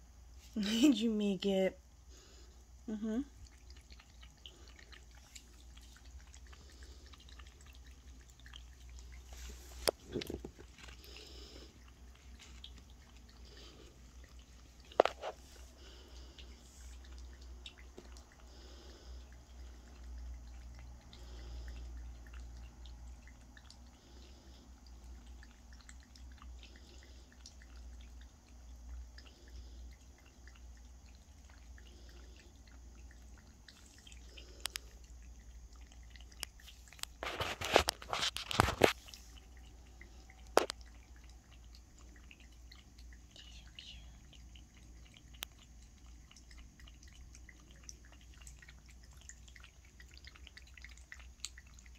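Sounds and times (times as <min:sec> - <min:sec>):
cat lapping water: 0:00.3 - 0:51.9.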